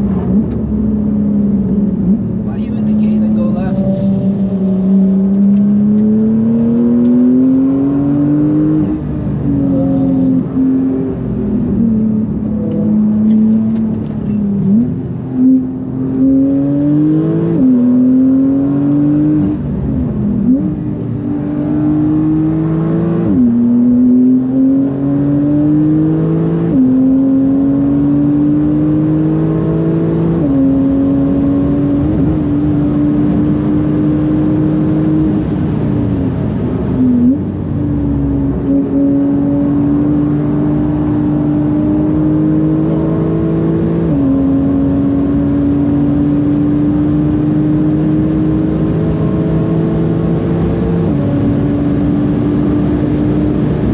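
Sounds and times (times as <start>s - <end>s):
car engine revving through upshifts: 0.0s - 53.9s.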